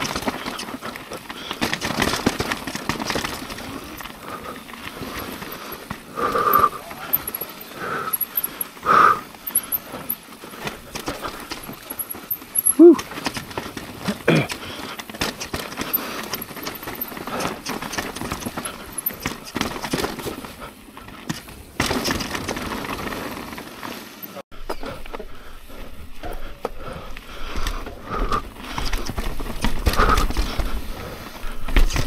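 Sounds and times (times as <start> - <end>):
bike rattling over bumps: 0.0 - 32.0
bike tyres on dirt: 0.0 - 32.0.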